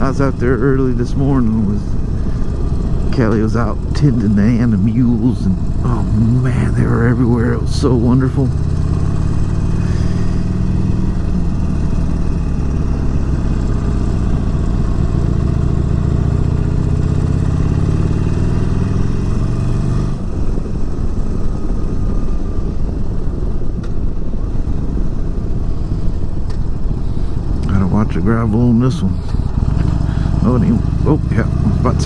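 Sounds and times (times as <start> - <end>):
motorcycle engine revving: 0.0 - 32.0
road rumble: 0.0 - 32.0
wind: 0.0 - 32.0.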